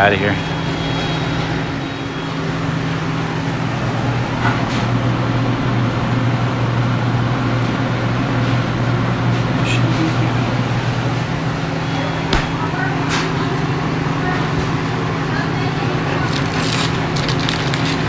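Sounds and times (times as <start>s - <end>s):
freezer humming: 0.0s - 18.0s.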